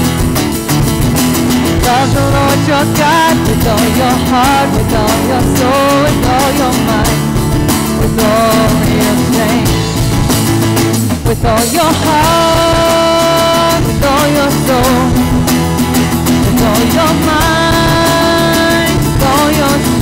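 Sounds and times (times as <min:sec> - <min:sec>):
djembe drum: 0:00.0 - 0:20.0
electric guitar: 0:00.0 - 0:20.0
strummed acoustic guitar: 0:00.0 - 0:20.0
woman singing lead melody: 0:01.6 - 0:10.4, 0:11.0 - 0:20.0.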